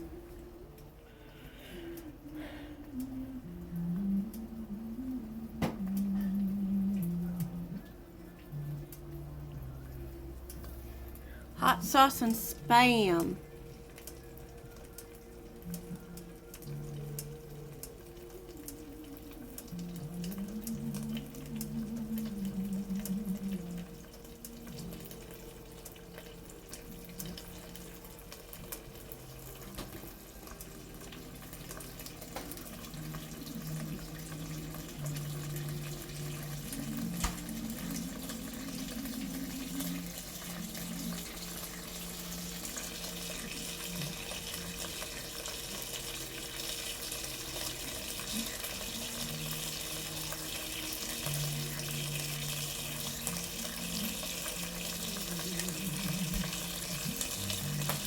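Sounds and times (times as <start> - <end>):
water running from tap into sink: 11.2 - 58.0.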